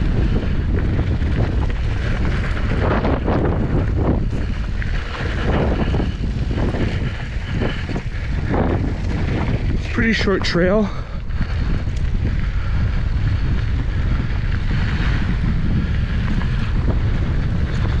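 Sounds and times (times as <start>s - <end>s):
bike rattling over bumps: 0.0s - 18.0s
bike tyres crunching over dirt: 0.0s - 18.0s
wind buffeting on microphone: 0.0s - 18.0s.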